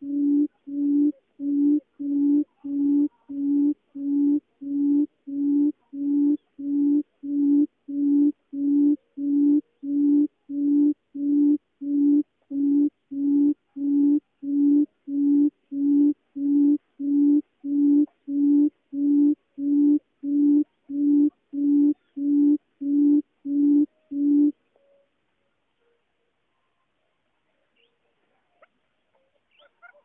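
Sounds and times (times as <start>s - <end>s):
bird low hooting call: 0.0s - 25.1s.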